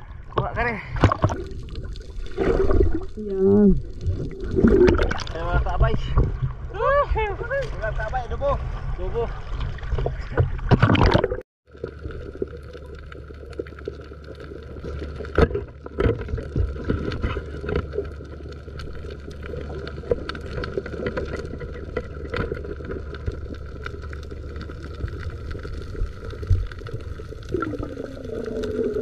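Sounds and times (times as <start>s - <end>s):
underwater low hum: 0.0s - 29.0s
water splashing: 0.0s - 29.0s
underwater clicks and crackles: 0.2s - 6.7s, 7.4s - 8.3s, 9.4s - 29.0s.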